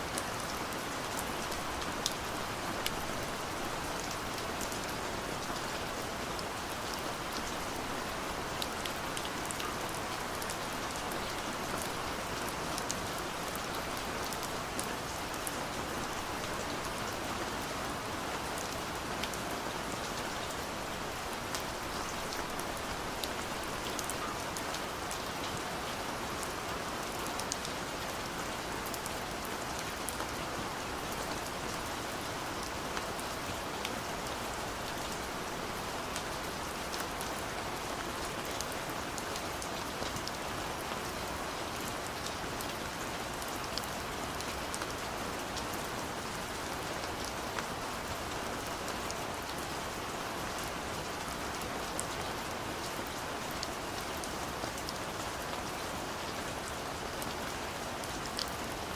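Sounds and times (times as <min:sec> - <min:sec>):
rain falling: 0:00.0 - 0:58.9.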